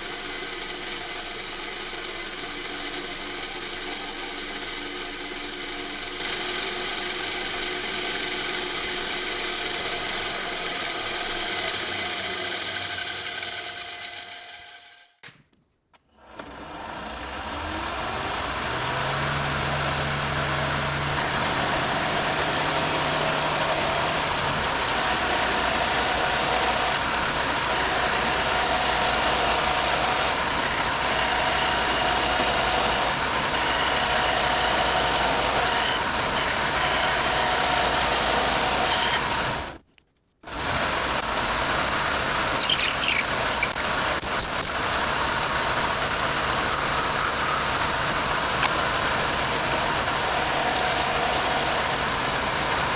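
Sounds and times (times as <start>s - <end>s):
workshop power tools running: 0.0s - 15.2s, 16.0s - 39.8s, 40.4s - 52.9s.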